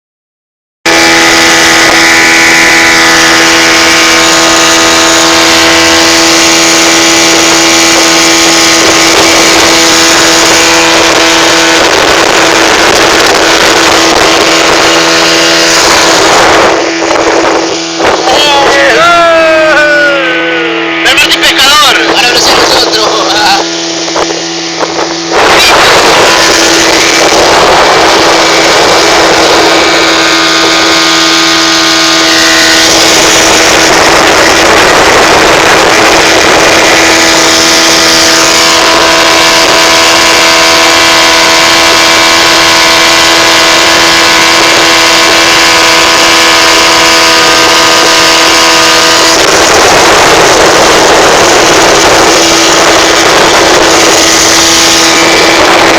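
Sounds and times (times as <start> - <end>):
motorboat engine: 0.8 - 55.9
rushing wind and water: 0.9 - 55.9.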